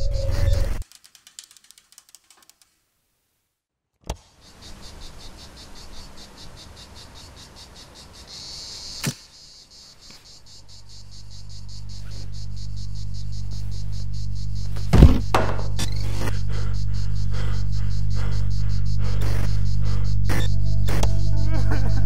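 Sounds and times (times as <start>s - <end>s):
crickets chirping: 0.0s - 0.8s, 4.2s - 22.0s.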